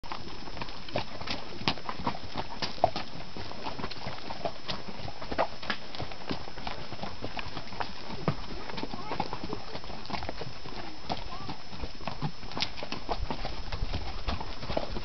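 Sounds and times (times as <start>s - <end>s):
hooves clopping on rocky trail: 0.0s - 15.0s.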